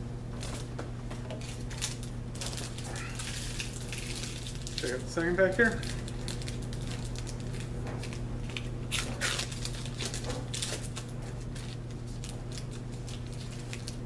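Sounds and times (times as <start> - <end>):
foil wrapper crinkling: 1.3 - 14.0
foil wrapper ripping: 1.4 - 14.0.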